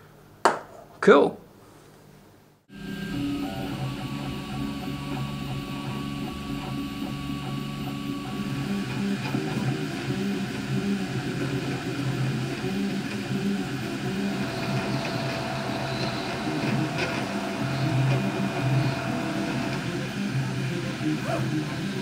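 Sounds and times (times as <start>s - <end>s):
cooling fan whirring: 1.0s - 22.0s
stepper motors whining: 2.7s - 22.0s.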